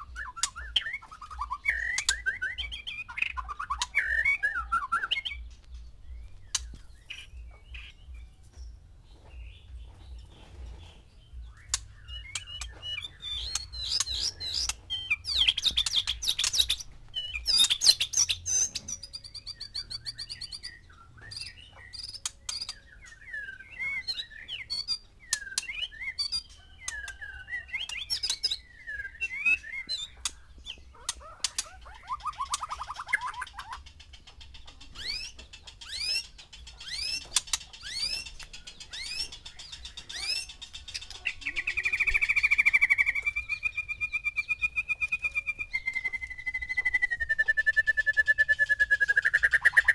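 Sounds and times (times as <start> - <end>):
birds singing and calling: 0.0 - 49.9.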